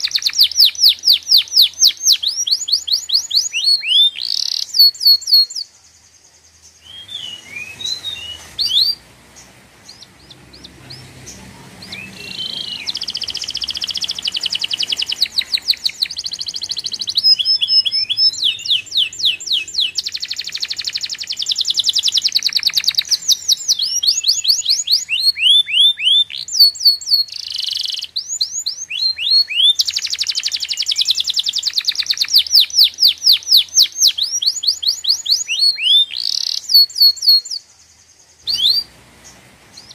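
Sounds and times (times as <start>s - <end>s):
bird trilling and chirping: 0.0s - 39.9s.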